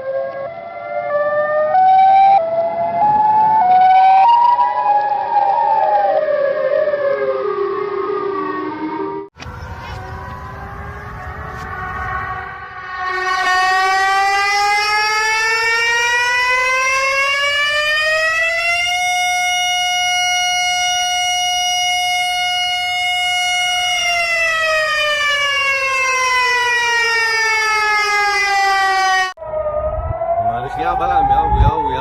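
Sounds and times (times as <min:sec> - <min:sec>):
reversed warning siren wail: 0:00.0 - 0:32.0.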